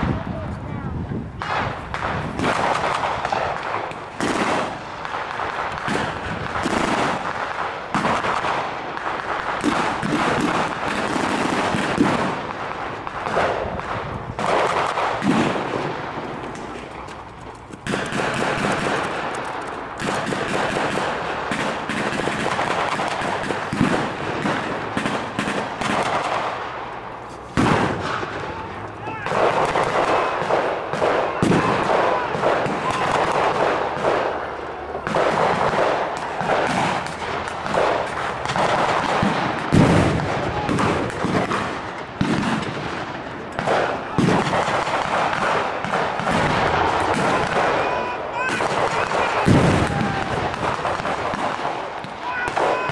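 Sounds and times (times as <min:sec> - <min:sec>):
rifle shots: 0:01.4 - 0:52.9.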